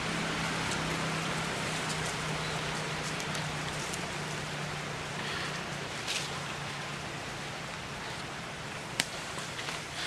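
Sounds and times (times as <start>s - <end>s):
forest ambience hiss: 0.0s - 10.0s.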